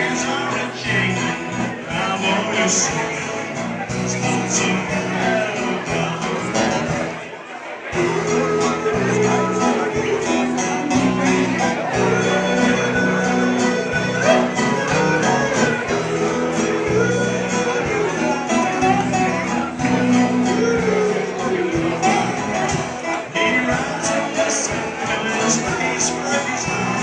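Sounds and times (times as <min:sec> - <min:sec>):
country band playing a waltz: 0:00.0 - 0:27.0.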